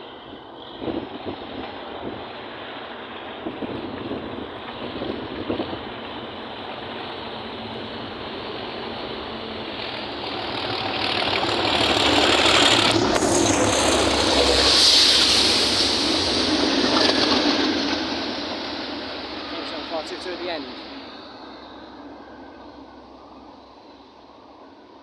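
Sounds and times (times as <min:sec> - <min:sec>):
diesel locomotive engine: 0:00.0 - 0:25.0.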